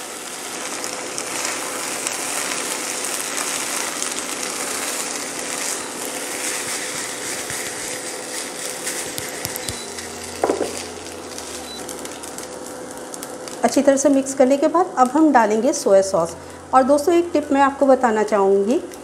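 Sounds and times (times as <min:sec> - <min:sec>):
rice and vegetables sizzling in pan: 0:00.0 - 0:15.9.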